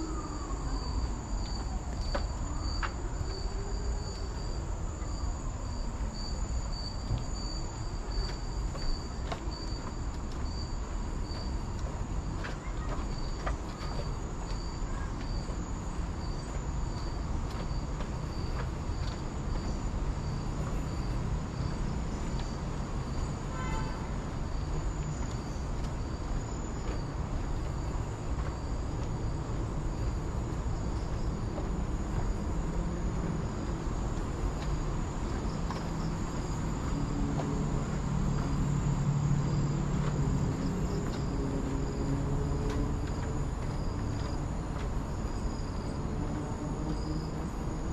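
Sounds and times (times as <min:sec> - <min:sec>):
insect chirps: 0:00.0 - 0:47.9
insects droning: 0:00.0 - 0:47.9.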